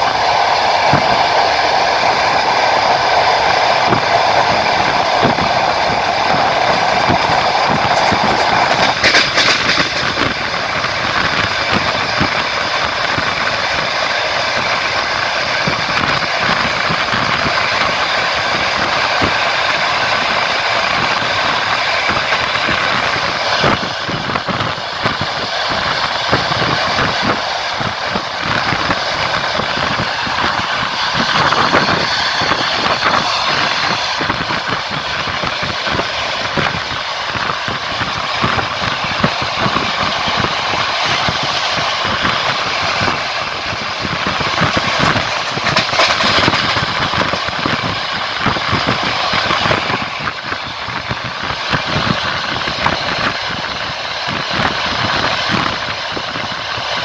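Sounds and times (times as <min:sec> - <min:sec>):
wheel and rail rush: 0:00.0 - 0:57.0
wheels rattling on track: 0:00.0 - 0:57.0.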